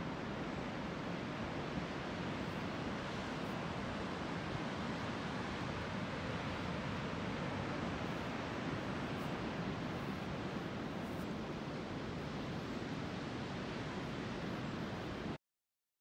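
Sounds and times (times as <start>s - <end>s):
ocean surf rushing: 0.0s - 15.4s.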